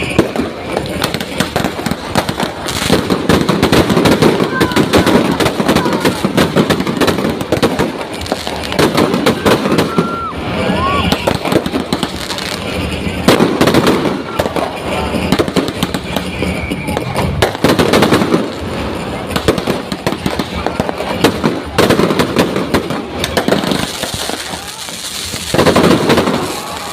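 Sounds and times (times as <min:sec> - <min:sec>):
fireworks crackling and banging: 0:00.0 - 0:26.9
people's voices: 0:00.0 - 0:26.9.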